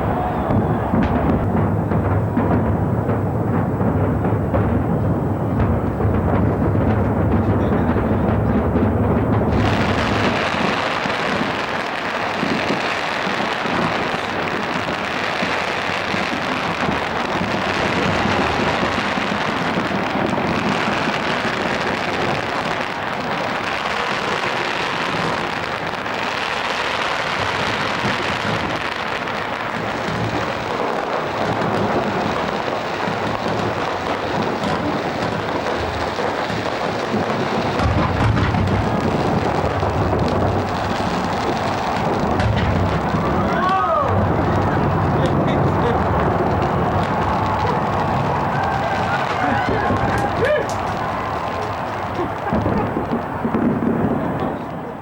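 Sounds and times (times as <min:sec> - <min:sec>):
fireworks booming: 0:00.0 - 0:55.0
fireworks crackling: 0:00.0 - 0:55.0.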